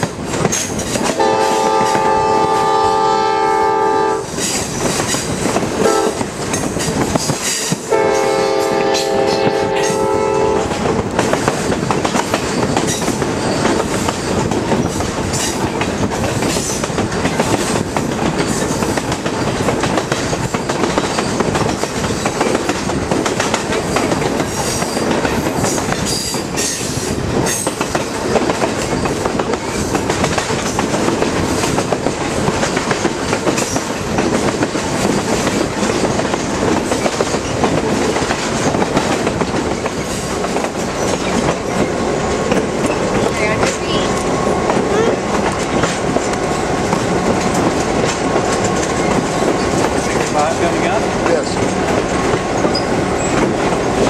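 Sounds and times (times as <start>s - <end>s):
train wheels clickety-clack on rails: 0.0s - 54.0s.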